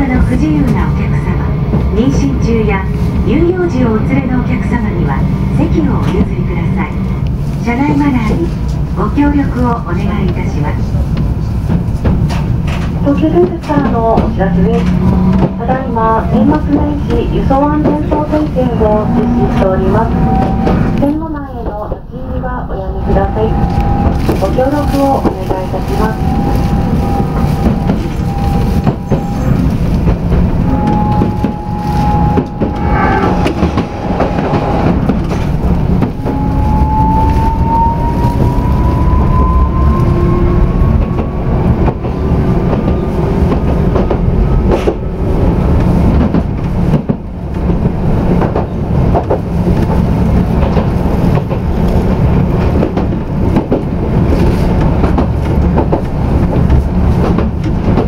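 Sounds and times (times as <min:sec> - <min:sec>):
railcar rumbling on rails: 0:00.0 - 0:58.0.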